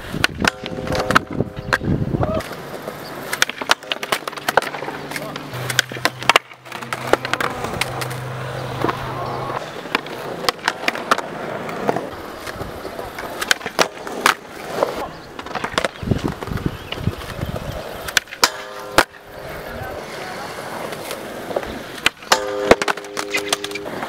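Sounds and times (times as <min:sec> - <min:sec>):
skateboard clacks: 0:00.0 - 0:24.0
skateboard wheels rolling on concrete: 0:00.0 - 0:24.0.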